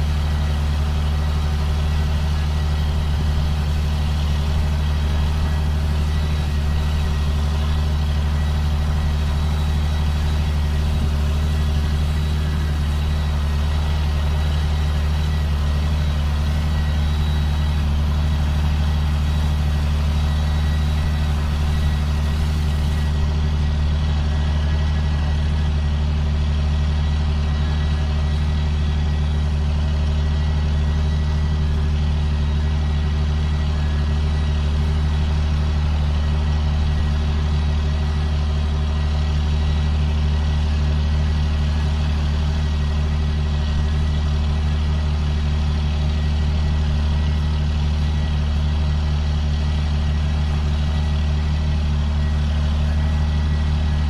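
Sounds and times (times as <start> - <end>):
sprayer engine droning: 0.0 - 54.0.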